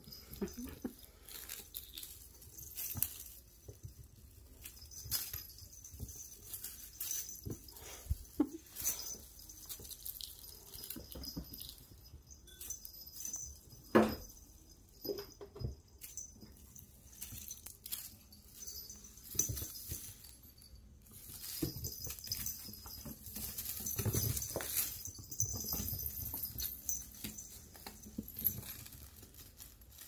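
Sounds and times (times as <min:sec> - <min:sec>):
foil streamers rustling: 0:00.0 - 0:13.6, 0:16.0 - 0:30.0.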